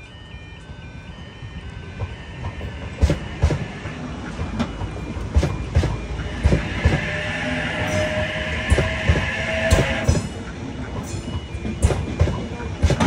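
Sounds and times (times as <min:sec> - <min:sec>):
train passing with steady rush: 0:00.0 - 0:13.0
steady whine: 0:00.6 - 0:13.0.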